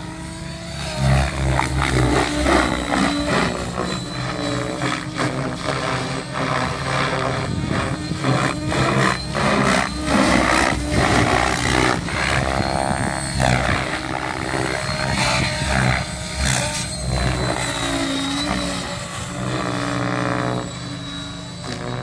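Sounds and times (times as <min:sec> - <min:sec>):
electric motor whine: 0:00.0 - 0:22.0
helicopter rotor chopping: 0:00.0 - 0:22.0.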